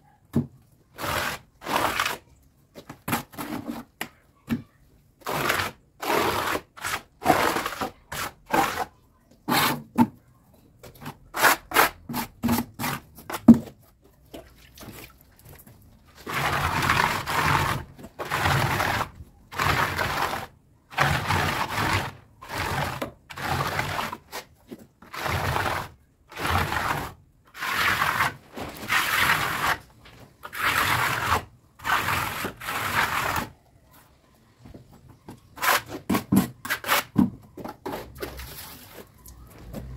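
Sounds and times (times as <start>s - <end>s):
tool scraping through mortar: 1.0s - 4.0s, 5.2s - 10.0s, 10.9s - 13.7s, 16.2s - 33.6s, 35.4s - 39.9s.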